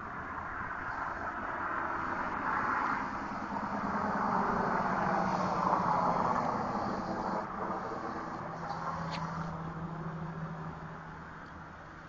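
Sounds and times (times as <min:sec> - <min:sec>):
car driving past: 0:00.6 - 0:11.3.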